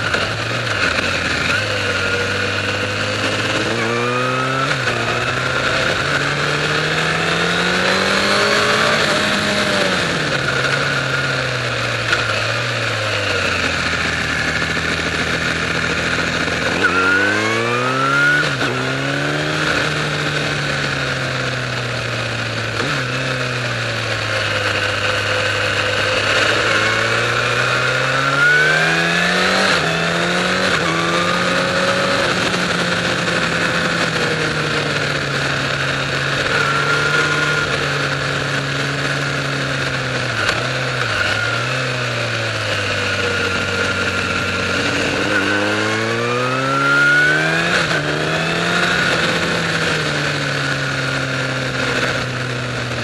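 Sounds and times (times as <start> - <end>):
motorcycle engine revving: 0.0 - 53.0
wind and tyre noise: 0.0 - 53.0.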